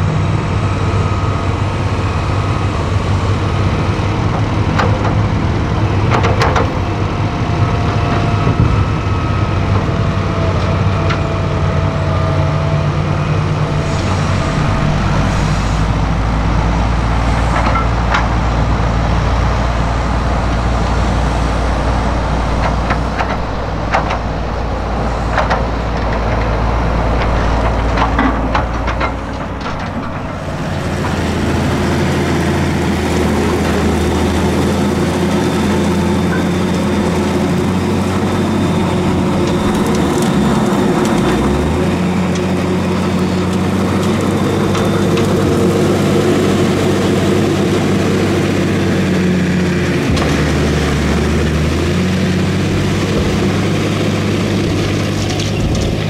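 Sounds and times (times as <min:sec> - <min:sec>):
heavy diesel machinery running: 0:00.0 - 0:56.0
tractor engine rumble: 0:00.0 - 0:56.0.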